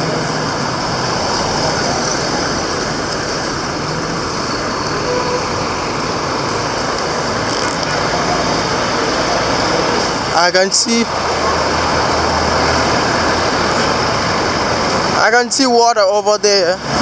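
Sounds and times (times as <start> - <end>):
slow street traffic: 0.0 - 17.0.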